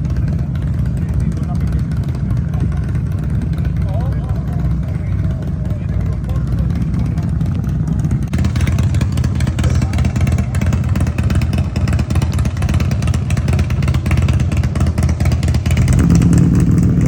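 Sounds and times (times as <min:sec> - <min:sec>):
motorcycle engines idling: 0:00.0 - 0:17.0.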